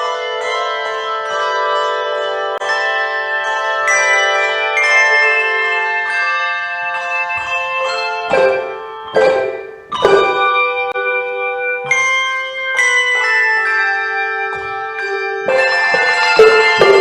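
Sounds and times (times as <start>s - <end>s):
handbell choir ringing chords: 0.0s - 17.0s.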